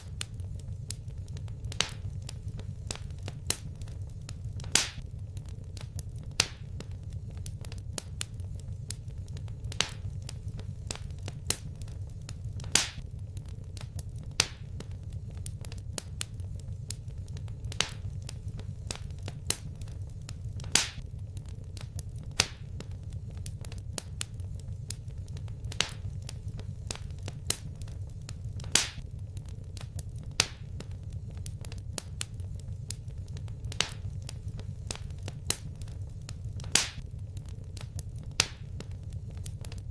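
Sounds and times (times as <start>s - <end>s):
low rumble of burning: 0.0s - 39.9s
wood fire crackling: 0.0s - 39.9s.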